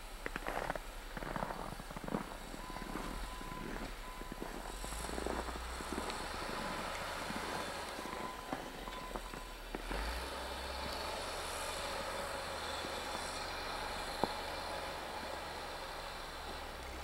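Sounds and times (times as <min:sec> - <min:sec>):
low mechanical engine rumble: 0:00.0 - 0:17.0.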